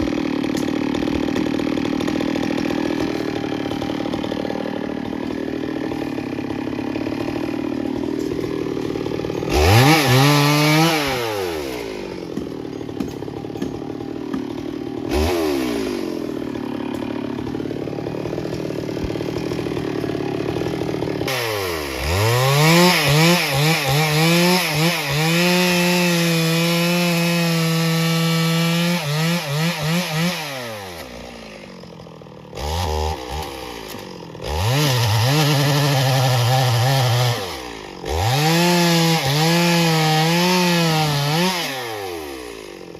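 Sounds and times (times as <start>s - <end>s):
chainsaw cutting wood: 0.0s - 42.9s
chainsaw idling and revving: 0.0s - 42.9s.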